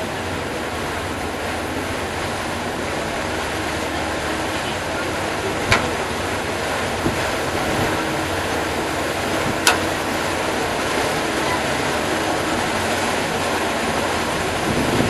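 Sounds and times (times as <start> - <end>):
boat engine and water rushing: 0.0 - 15.0.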